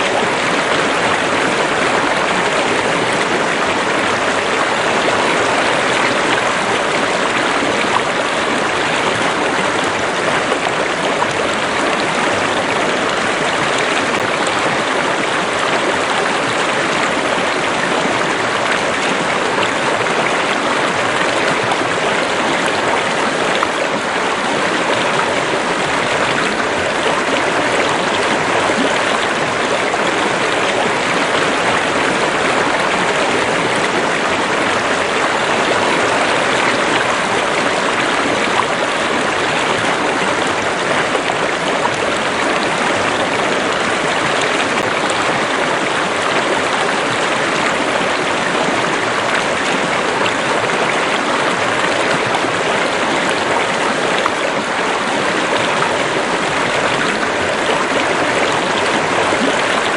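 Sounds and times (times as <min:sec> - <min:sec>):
water running over rocks: 0:00.0 - 0:59.9.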